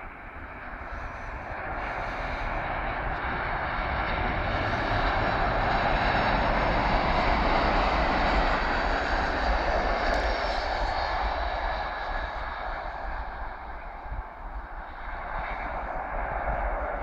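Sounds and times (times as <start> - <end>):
jet engines of landing airliner: 0.0 - 17.0.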